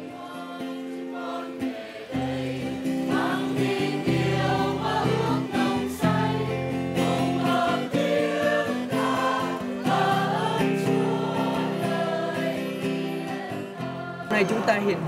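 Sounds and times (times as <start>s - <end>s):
choir singing a hymn: 0.0s - 15.0s
guitar accompaniment: 0.0s - 15.0s.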